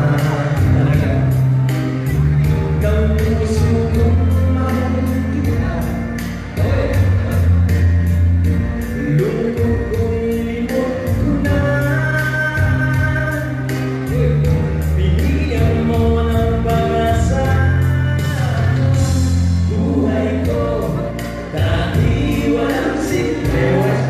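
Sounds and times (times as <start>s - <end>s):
men singing into microphones: 0.0s - 24.0s
music with bass and beat: 0.0s - 24.0s.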